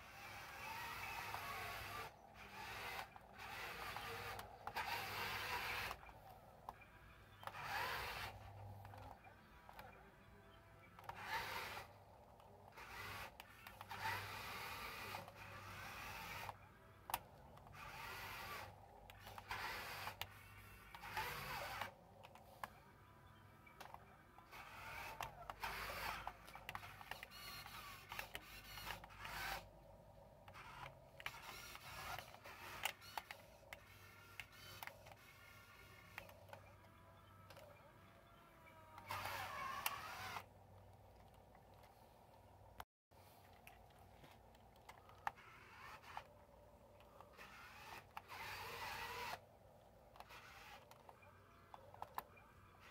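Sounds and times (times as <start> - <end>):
small electric motors whirring: 0.0 - 52.9.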